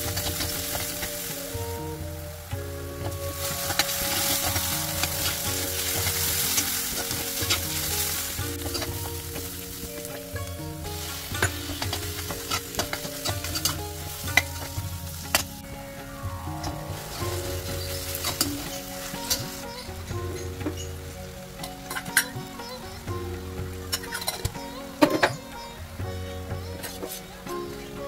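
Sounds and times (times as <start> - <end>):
onions sizzling in oil: 0.0 - 25.3.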